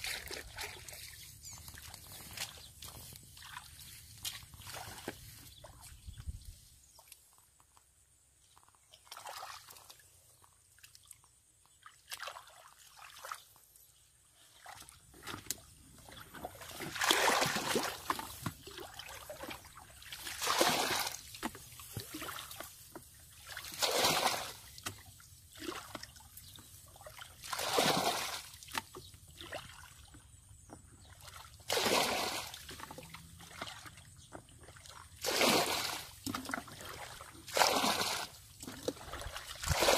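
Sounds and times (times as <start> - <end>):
water splashing from a basin: 0.0 - 5.4, 8.9 - 13.6, 14.5 - 30.2, 31.2 - 39.9
wading in mud: 0.0 - 7.1, 8.4 - 39.9.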